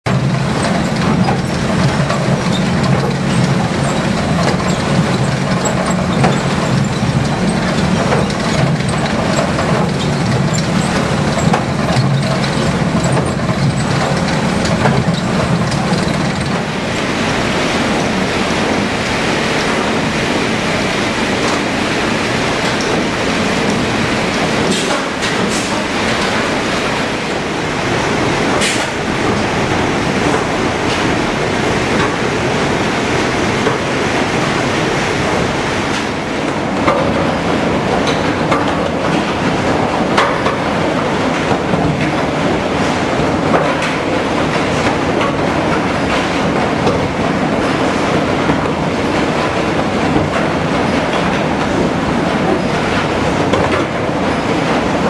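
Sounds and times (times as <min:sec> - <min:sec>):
sawmill machinery din: 0:00.1 - 0:55.0.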